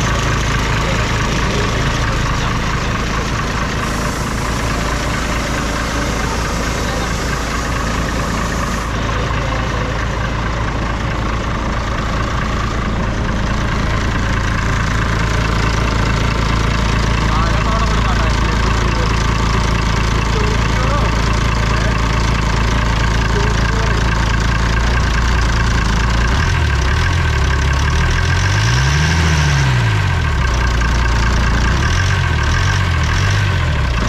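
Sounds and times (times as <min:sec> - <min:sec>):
truck diesel engine idling: 0:00.0 - 0:34.0.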